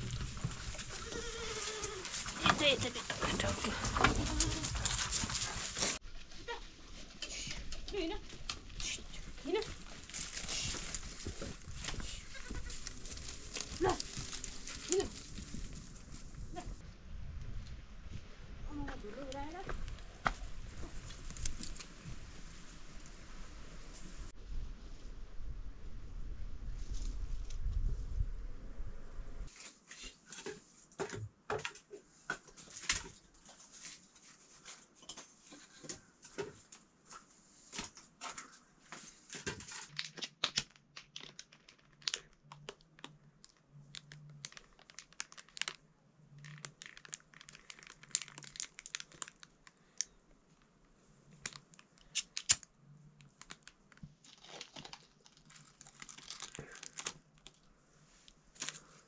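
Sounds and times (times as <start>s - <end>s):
crinkling rustle: 0.0s - 16.8s, 18.7s - 24.3s, 32.1s - 59.0s.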